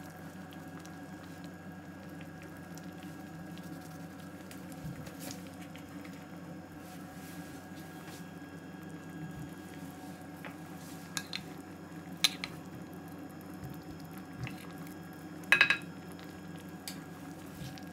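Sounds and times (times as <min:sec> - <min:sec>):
low background hum: 0:00.0 - 0:17.9.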